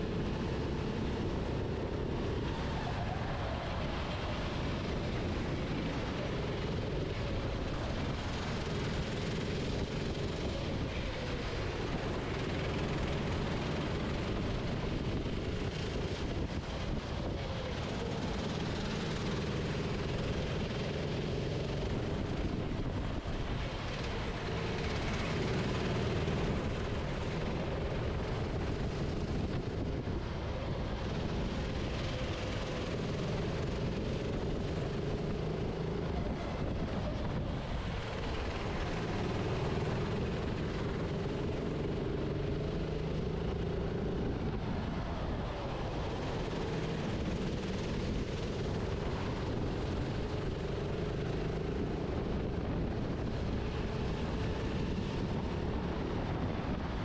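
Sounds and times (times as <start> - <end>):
go-kart engine: 0.0 - 57.0
wind and tyre noise: 0.0 - 57.0.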